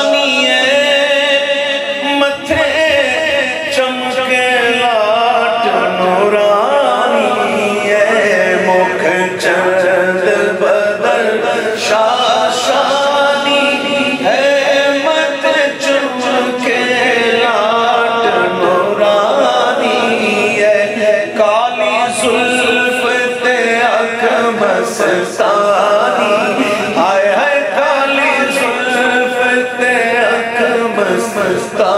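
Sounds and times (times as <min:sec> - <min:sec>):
man singing unaccompanied: 0:00.0 - 0:31.9.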